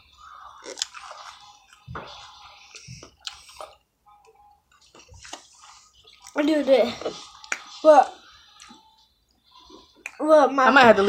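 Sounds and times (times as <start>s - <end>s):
people chewing: 0.0s - 10.2s.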